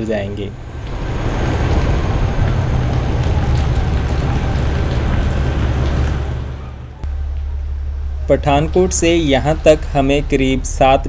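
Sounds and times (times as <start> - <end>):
low train rumble: 0.0 - 11.0.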